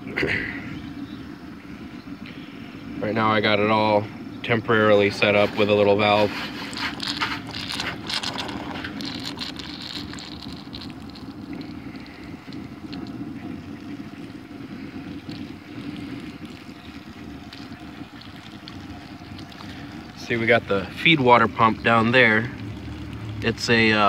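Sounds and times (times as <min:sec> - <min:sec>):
boiler steam hissing and sputtering: 0:00.0 - 0:24.0.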